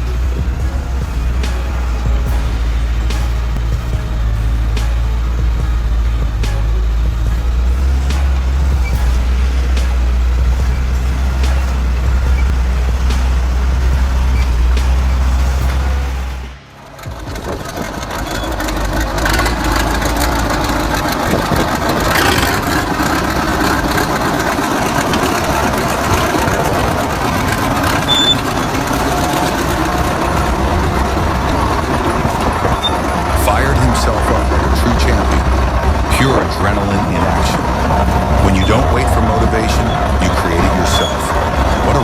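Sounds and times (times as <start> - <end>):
heavy vehicle engines droning: 0.0 - 42.0
rumbling machinery noise: 0.0 - 42.0.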